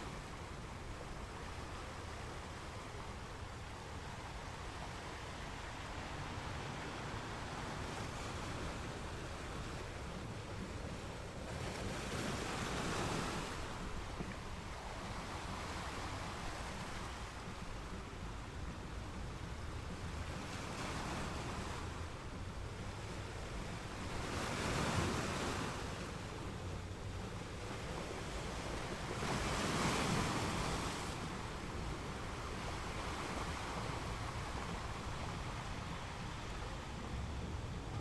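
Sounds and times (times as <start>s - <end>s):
ocean waves breaking: 0.0s - 38.0s.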